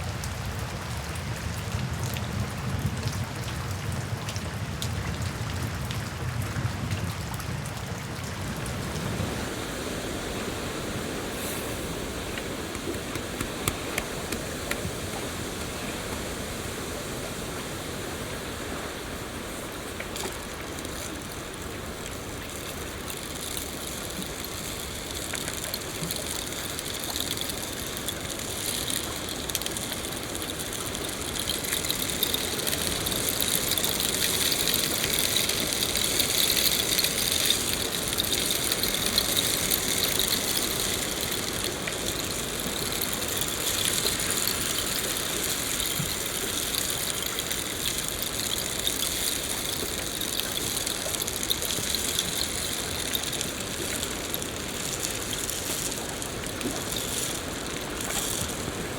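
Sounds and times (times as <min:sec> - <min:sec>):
rain patter in forest: 0:00.0 - 0:58.9.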